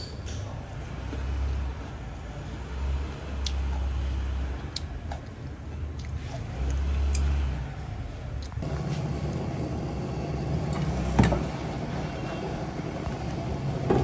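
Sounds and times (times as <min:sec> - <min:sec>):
low engine-like rumble: 0:00.6 - 0:14.0.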